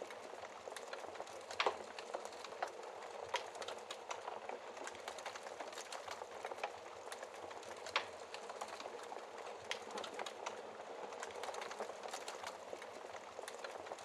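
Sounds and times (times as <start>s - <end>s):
wood logs crackling in fireplace: 0.0s - 14.0s.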